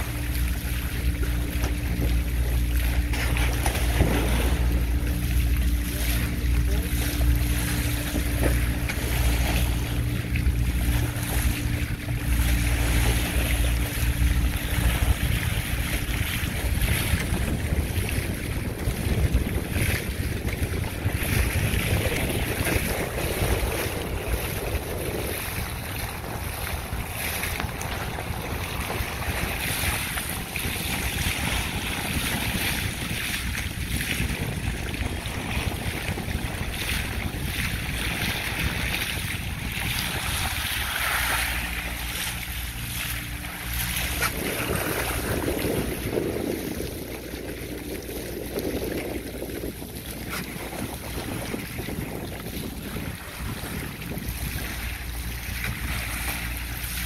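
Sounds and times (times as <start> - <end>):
low steady hum: 0.0 - 57.0
water streaming past hull: 0.0 - 57.0
wind buffeting microphone: 0.0 - 57.0.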